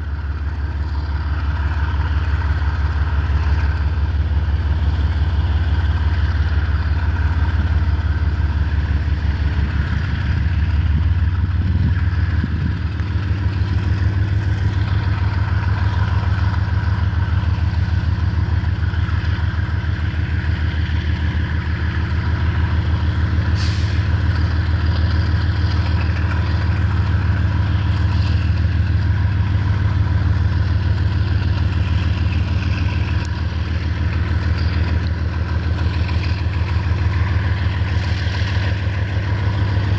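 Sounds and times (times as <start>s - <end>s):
diesel locomotive engines droning: 0.0s - 39.9s.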